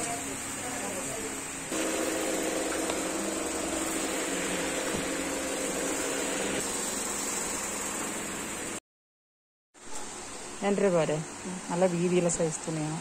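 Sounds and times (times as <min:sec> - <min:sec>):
steady machine hum with hiss: 0:00.0 - 0:08.8, 0:09.8 - 0:13.0.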